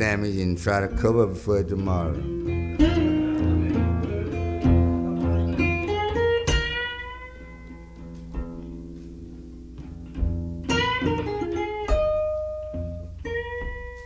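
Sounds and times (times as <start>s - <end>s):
low bass notes: 0.0s - 13.2s
blues guitar playing: 0.0s - 14.0s.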